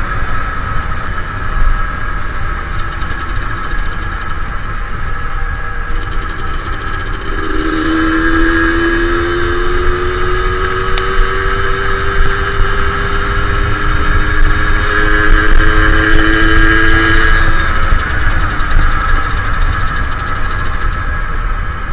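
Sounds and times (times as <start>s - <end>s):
low wind rumble: 0.0s - 21.9s
two-stroke motorcycle engine: 0.0s - 21.9s.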